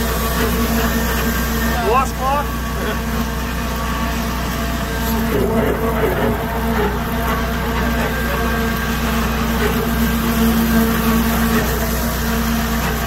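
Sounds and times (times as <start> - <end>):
grinder pump humming: 0.0 - 13.0.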